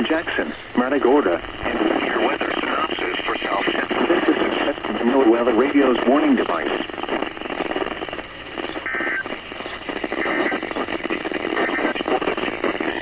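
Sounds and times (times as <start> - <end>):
faint broken radio broadcast: 0.0 - 13.0
radio static and hiss: 0.0 - 13.0.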